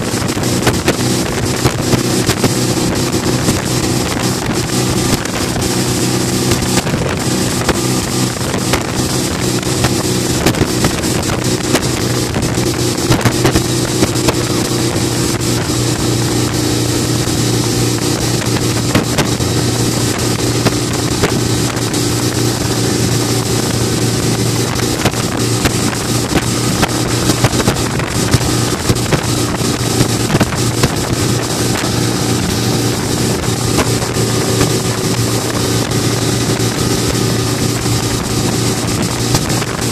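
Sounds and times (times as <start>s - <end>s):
churning water: 0.0s - 39.9s
outboard motor running: 0.0s - 39.9s.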